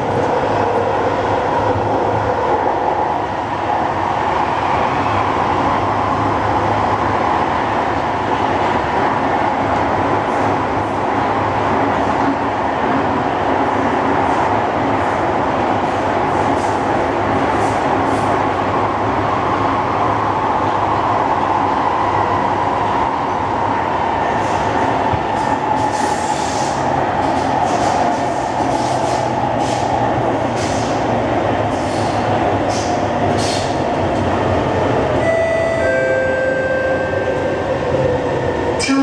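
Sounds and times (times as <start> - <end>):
train wheels and motors rumbling: 0.0 - 39.0.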